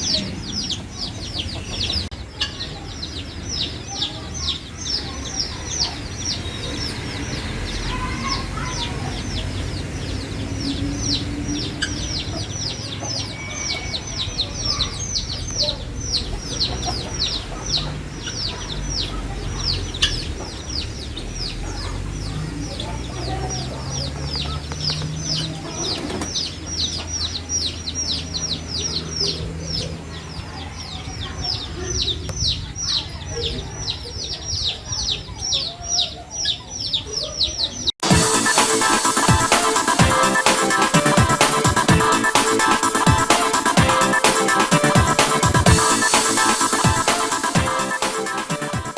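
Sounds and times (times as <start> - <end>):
guinea fowl keets peeping: 0.0 - 47.6.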